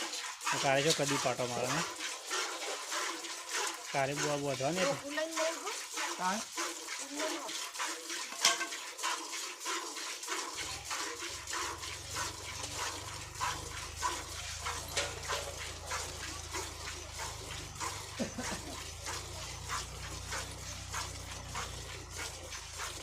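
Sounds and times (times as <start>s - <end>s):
milk squirting into a pail: 0.0s - 23.0s.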